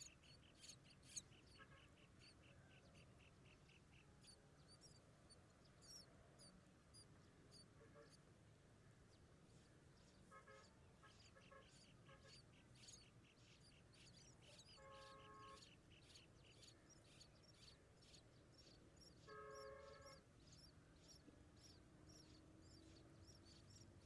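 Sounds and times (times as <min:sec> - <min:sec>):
nestling birds cheeping: 0:00.0 - 0:08.2, 0:10.0 - 0:24.0.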